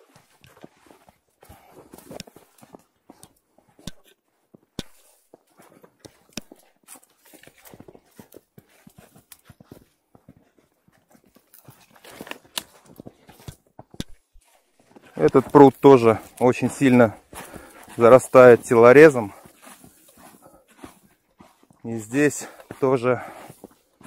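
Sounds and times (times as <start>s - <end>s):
footsteps crunching through snow: 0.0s - 24.0s.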